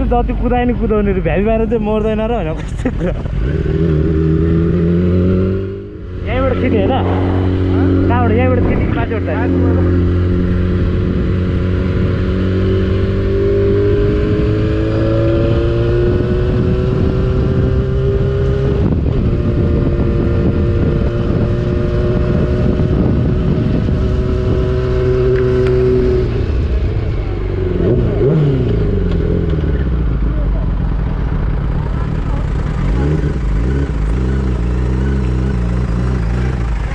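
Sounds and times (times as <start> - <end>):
motorcycle engine running: 2.9 - 36.9.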